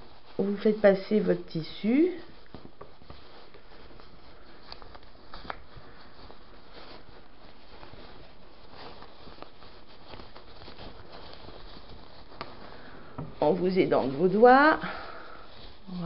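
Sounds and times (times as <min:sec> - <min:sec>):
fabric rustling and rubbing: 0:00.0 - 0:16.0
faint steady hiss: 0:00.0 - 0:16.0.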